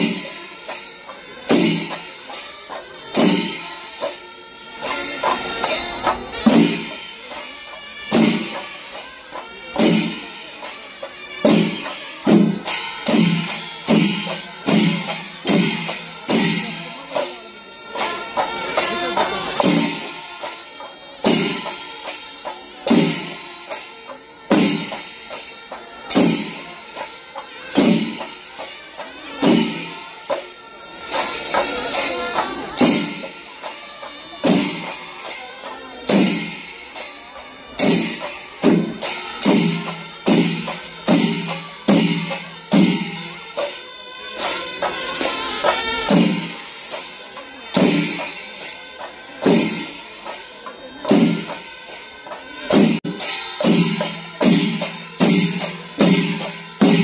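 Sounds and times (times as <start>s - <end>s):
cymbals clashing: 0.0s - 57.0s
drums beating: 0.0s - 57.0s.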